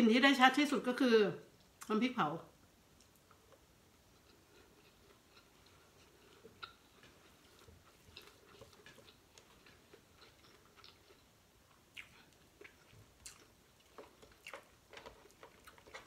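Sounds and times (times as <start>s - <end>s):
faint chewing: 2.9s - 16.0s.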